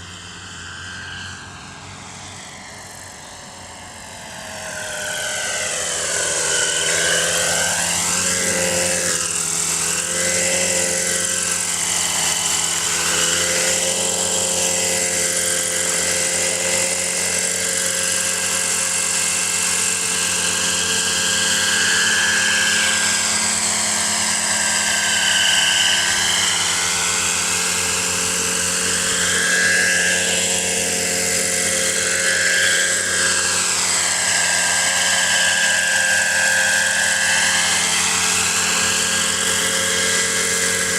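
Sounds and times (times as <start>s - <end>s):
model helicopter engine and rotor: 0.0s - 40.9s.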